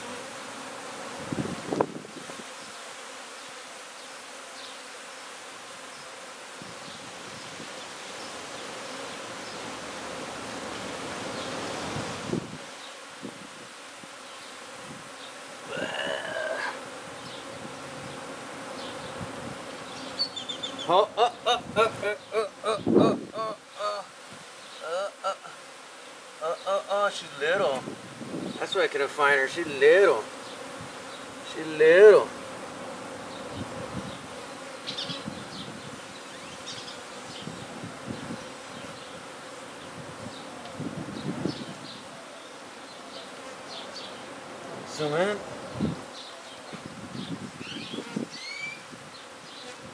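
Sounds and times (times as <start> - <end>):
bee swarm buzzing: 0.0 - 49.9.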